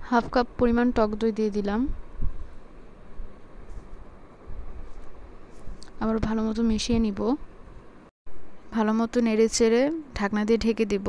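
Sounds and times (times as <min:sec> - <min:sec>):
low steady hiss: 0:00.0 - 0:11.0.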